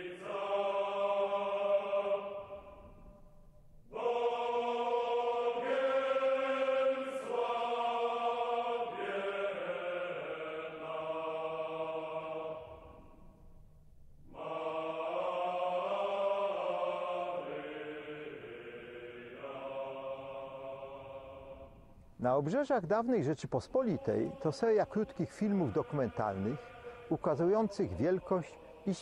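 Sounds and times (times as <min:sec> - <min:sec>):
slow chant-like singing: 0:00.0 - 0:13.4, 0:14.2 - 0:29.0.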